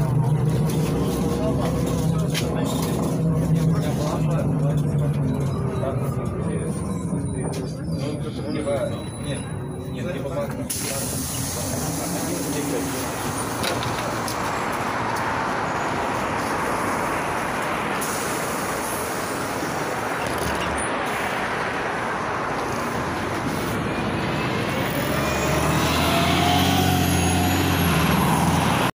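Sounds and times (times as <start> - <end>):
bus engine accelerating with whine: 0.0 - 28.9.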